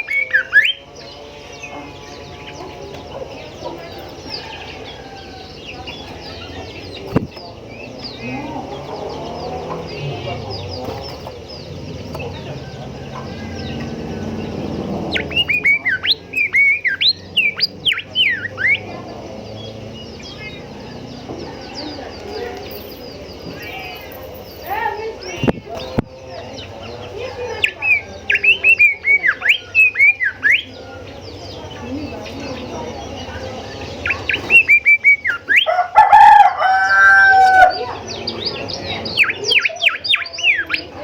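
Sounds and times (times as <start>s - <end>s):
small birds chirping: 0.0s - 41.0s
whistled bird song: 0.0s - 41.0s.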